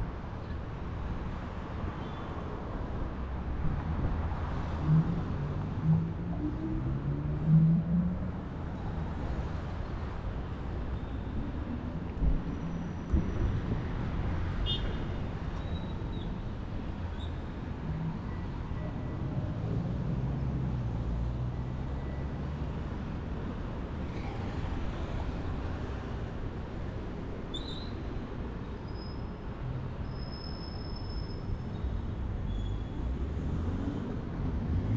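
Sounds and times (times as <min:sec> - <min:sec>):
street traffic rumble: 0:00.0 - 0:34.9.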